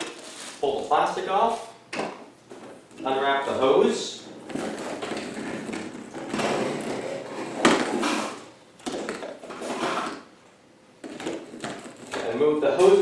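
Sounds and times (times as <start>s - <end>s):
plastic wrapping rustling: 0.0s - 1.8s, 2.5s - 10.3s, 11.0s - 13.0s.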